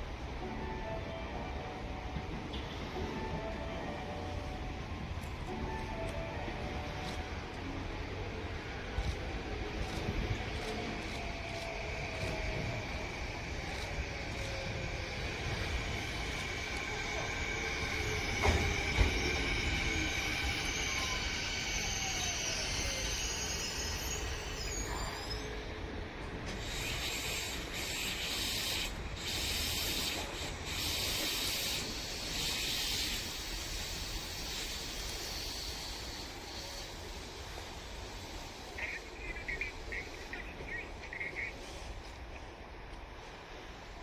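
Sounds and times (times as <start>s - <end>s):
hissing rush of rail noise: 0.0s - 44.0s
train wheels squealing: 5.5s - 42.4s.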